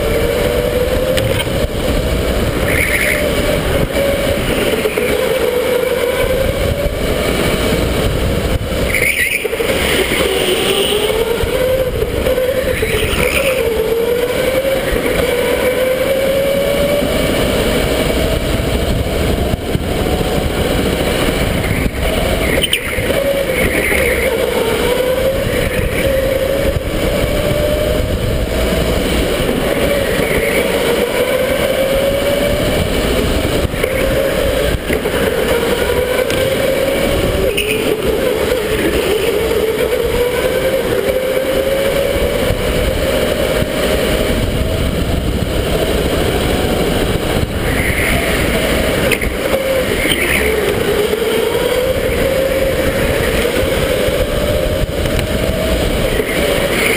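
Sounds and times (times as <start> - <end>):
electric go-kart motor whining: 0.0 - 56.9
steady rushing noise: 0.0 - 56.9.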